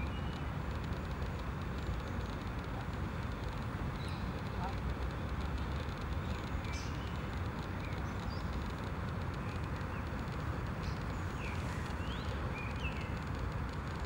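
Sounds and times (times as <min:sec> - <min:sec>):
distant traffic rumble: 0:00.0 - 0:14.0
small birds chirping: 0:01.2 - 0:13.6.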